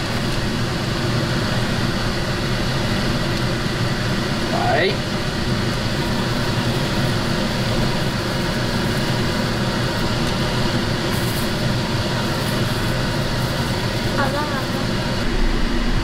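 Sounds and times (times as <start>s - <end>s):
fan humming: 0.0s - 16.0s.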